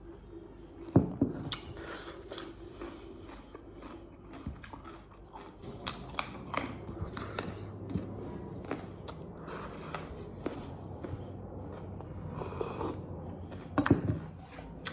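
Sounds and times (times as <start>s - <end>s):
chewing and crunching food: 0.0s - 14.9s.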